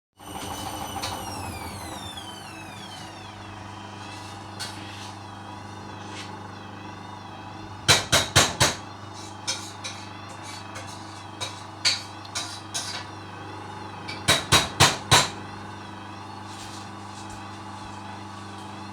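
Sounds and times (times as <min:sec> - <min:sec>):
washing machine motor whine: 0:00.2 - 0:18.9.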